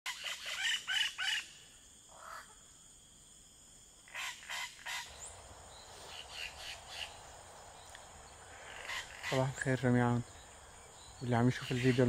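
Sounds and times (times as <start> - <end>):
birds calling: 0.1 - 2.8, 4.0 - 12.0.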